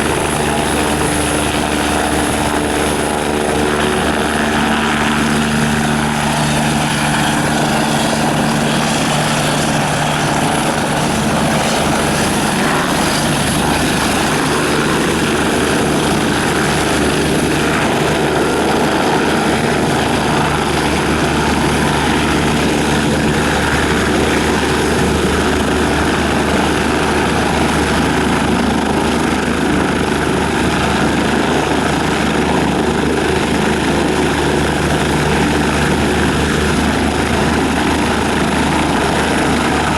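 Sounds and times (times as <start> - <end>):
helicopter rotor and turbine whine: 0.0 - 39.9.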